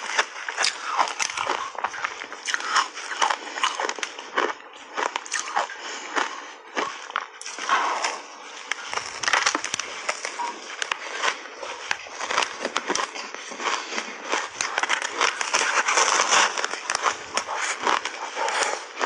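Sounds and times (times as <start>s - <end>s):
chewing and crunching ice: 0.0s - 19.0s.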